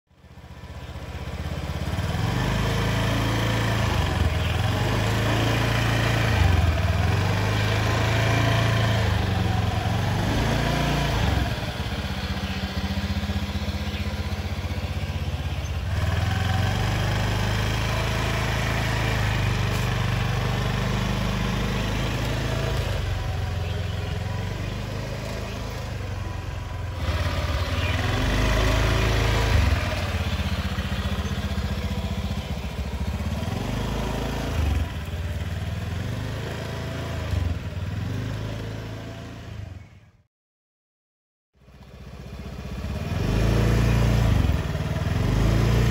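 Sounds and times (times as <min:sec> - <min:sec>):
motor scooter engine revving: 0:00.2 - 0:40.0, 0:41.6 - 0:45.9.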